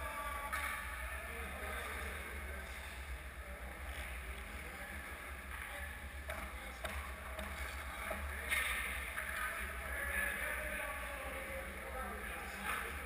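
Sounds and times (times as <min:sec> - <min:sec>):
distant skating noise: 0:00.0 - 0:13.0.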